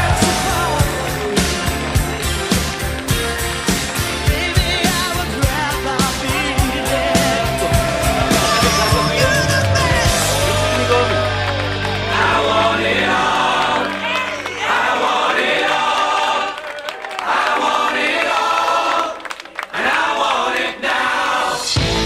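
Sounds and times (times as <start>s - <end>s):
song with voices singing together: 0.0s - 22.0s.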